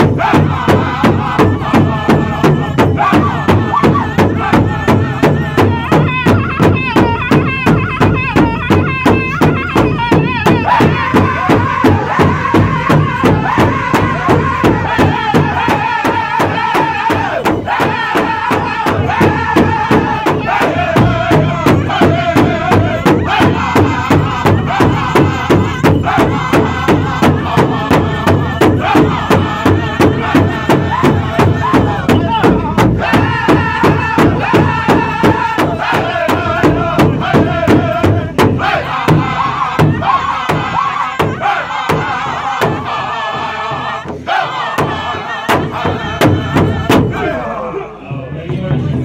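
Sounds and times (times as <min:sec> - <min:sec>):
group singing in high voices: 0:00.0 - 0:48.1
large hide drum beating: 0:00.0 - 0:49.0.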